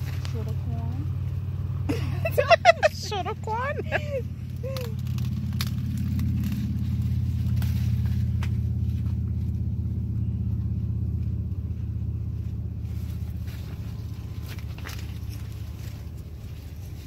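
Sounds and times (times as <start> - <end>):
corn husks crackling: 0.0 - 17.0
steady low rumble: 0.0 - 17.0.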